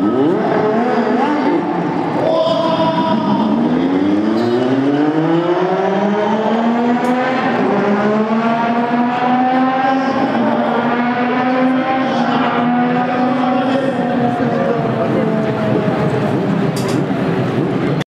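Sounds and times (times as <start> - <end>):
racing car engine pulling away: 0.0 - 17.9.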